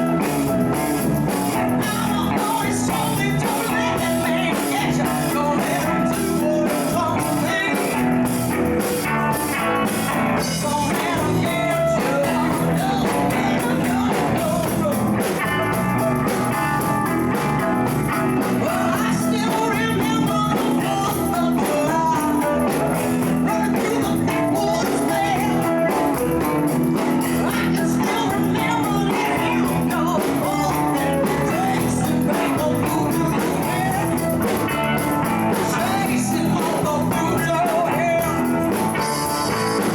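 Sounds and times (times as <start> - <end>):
live blues-rock band: 0.0 - 39.9
person singing: 0.0 - 39.9.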